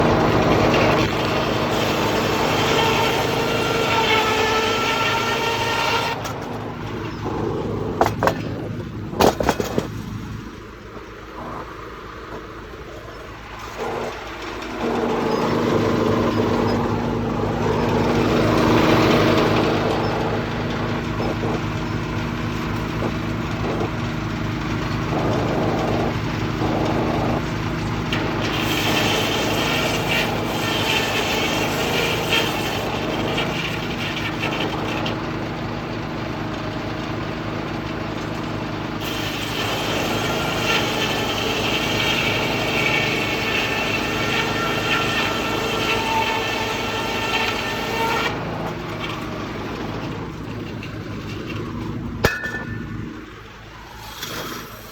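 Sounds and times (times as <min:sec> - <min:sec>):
saw cutting wood: 0:00.0 - 0:10.5, 0:11.4 - 0:35.3, 0:38.2 - 0:54.9
diesel engine running: 0:00.0 - 0:54.9.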